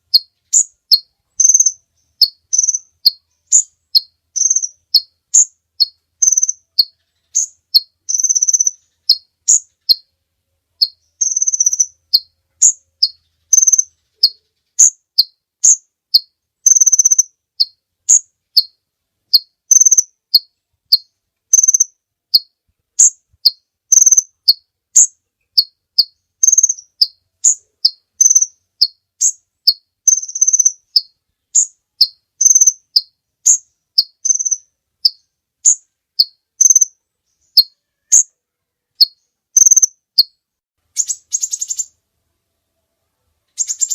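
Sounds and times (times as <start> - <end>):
sunbird singing high chirps: 0.0 - 10.1, 10.8 - 42.0, 43.5 - 43.9.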